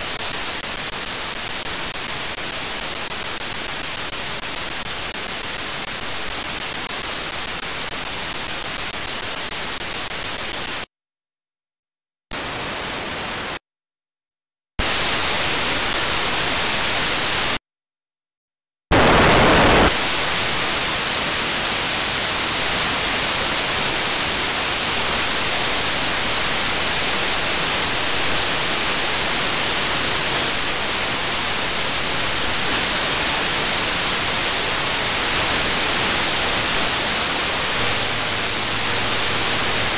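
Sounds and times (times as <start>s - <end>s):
radio static hiss: 0.0s - 10.9s, 12.3s - 13.6s, 14.8s - 17.6s, 18.9s - 39.9s.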